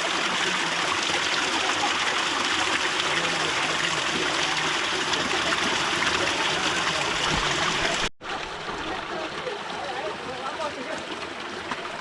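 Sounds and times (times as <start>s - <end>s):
water dripping onto rock and pool: 0.0s - 12.0s.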